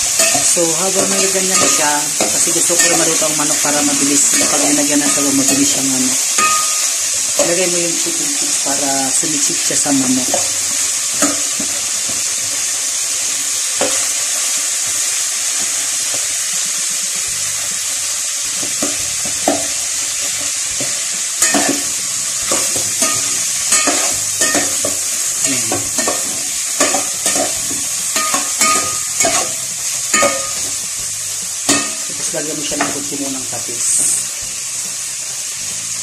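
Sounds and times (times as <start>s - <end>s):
chicken sizzling in a pot: 0.0s - 36.0s.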